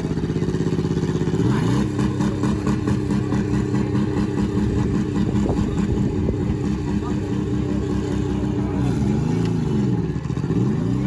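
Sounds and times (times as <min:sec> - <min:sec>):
car engine revving loudly: 0:00.0 - 0:11.0.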